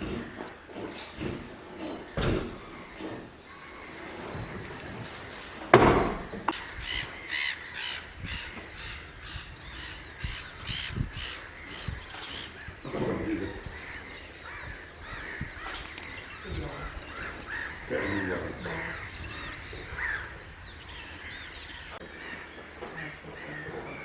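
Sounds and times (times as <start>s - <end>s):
birds chirping: 0.0s - 24.0s
harsh bird calls: 0.0s - 24.0s.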